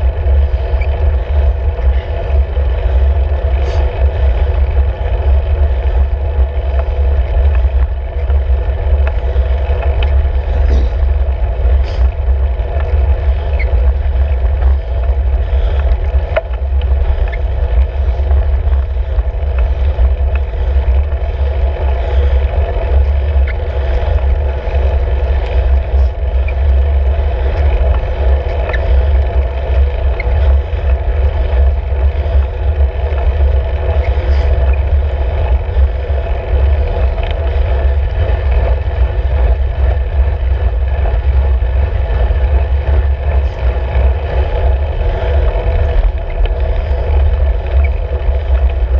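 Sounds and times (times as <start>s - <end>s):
road rumble: 0.0s - 48.9s.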